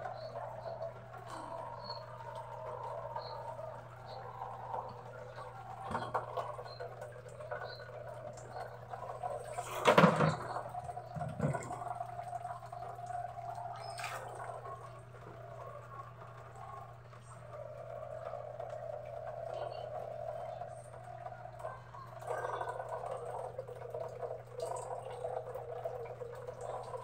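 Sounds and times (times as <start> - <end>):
rain falling: 0.0 - 27.0
water running and dripping: 0.0 - 27.0.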